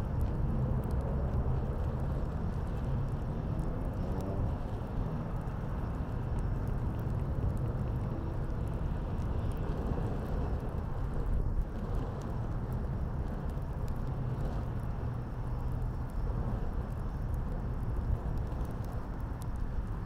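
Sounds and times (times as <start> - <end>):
city traffic rumble: 0.0 - 20.0
fire crackling and popping: 0.0 - 20.0
wind: 0.0 - 20.0.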